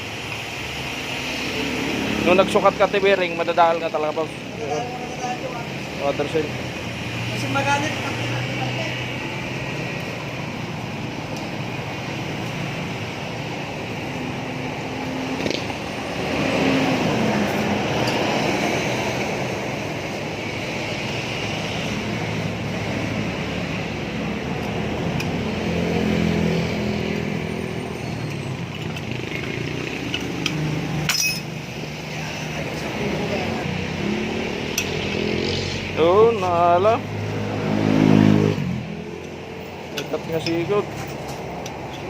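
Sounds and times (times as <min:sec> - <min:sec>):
vehicle engines passing: 0:00.0 - 0:42.0.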